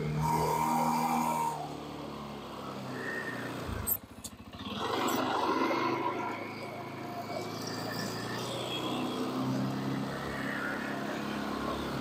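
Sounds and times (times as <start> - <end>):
engine running: 0.0 - 12.0
plow blade pushing snow: 0.0 - 12.0.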